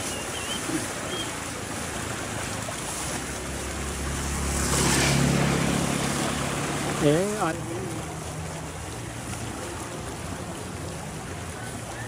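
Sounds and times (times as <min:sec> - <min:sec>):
turbulent river water rushing: 0:00.0 - 0:12.0.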